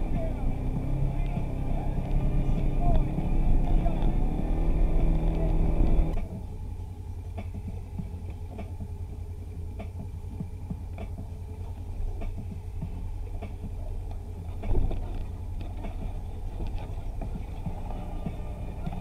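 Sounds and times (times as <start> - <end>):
engine running under load: 0.0 - 19.0.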